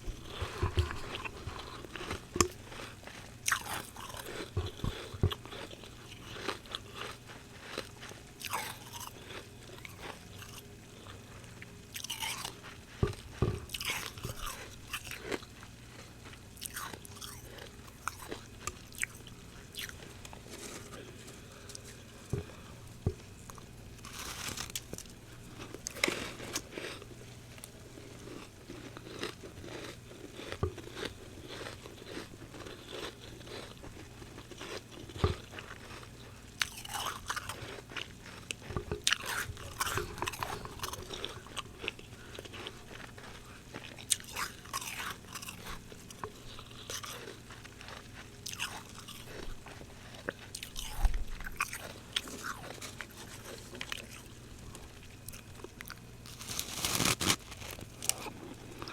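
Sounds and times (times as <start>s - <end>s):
biting and chewing frost crunches: 0.0s - 58.9s.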